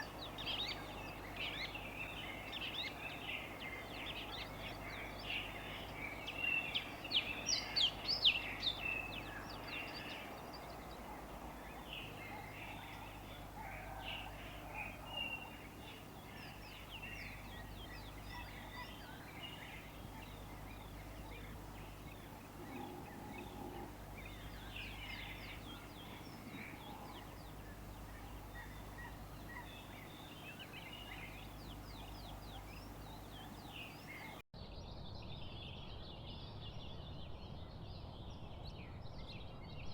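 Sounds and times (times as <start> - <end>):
songbirds chirping and singing: 0.0 - 34.4
low background noise: 0.0 - 39.9.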